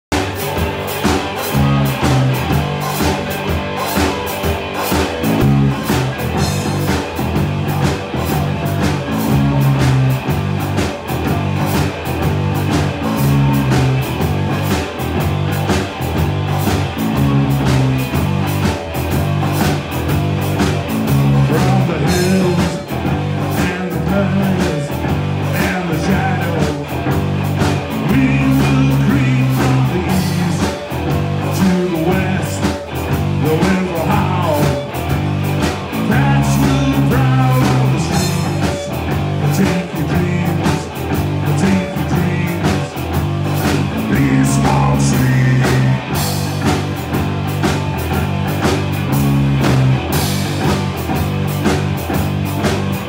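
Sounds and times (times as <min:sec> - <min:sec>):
driving drums: 0:00.0 - 0:53.0
electric bass line: 0:00.0 - 0:53.0
electric guitar: 0:00.0 - 0:53.0.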